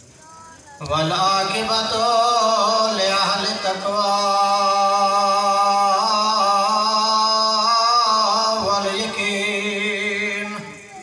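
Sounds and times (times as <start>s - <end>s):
man chanting: 0.8s - 11.0s.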